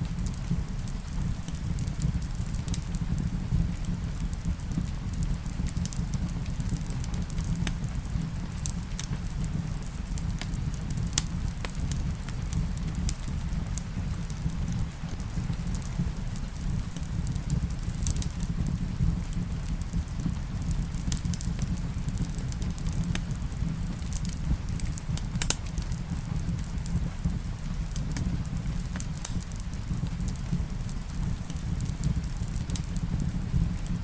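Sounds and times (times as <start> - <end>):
rain falling: 0.0 - 34.0
wood fire crackling: 0.0 - 34.0.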